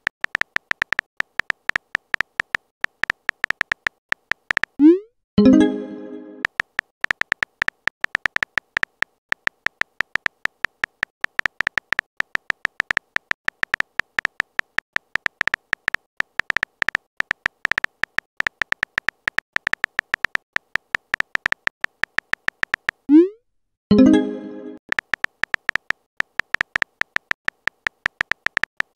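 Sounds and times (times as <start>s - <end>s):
keyboard beeping clicks: 0.0s - 28.9s.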